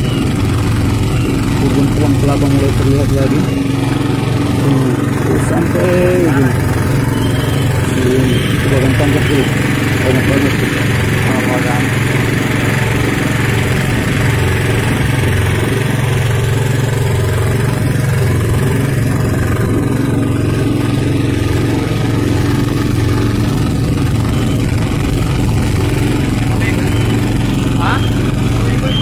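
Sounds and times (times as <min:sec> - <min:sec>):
boat motor running: 0:00.0 - 0:29.0.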